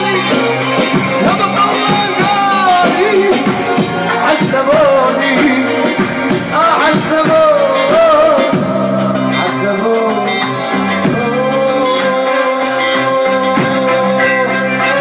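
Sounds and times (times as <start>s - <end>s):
electronic keyboard pop music: 0.0s - 15.0s.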